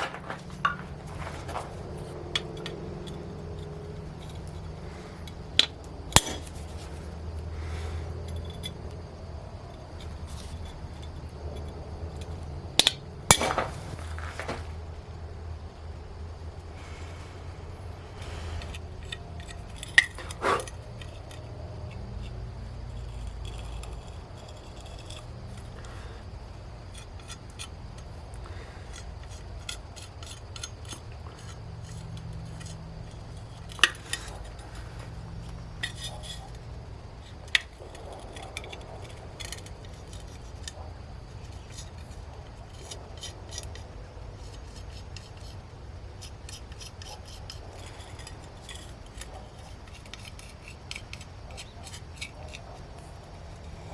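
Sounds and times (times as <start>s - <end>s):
metal tools clinking and scraping: 0.0s - 9.0s, 9.8s - 15.2s, 16.7s - 22.0s, 26.9s - 45.6s, 46.2s - 53.9s
steady low hum: 0.0s - 53.9s.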